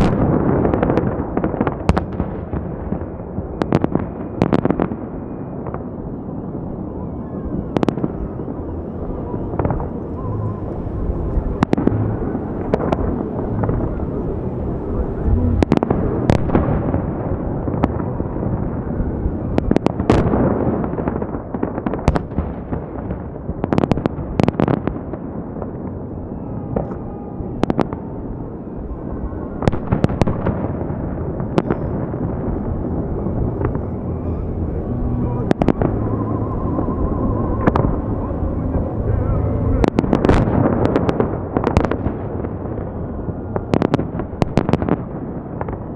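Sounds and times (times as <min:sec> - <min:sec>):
dense fireworks rumble: 0:00.0 - 0:45.9
fireworks bangs: 0:00.0 - 0:45.9.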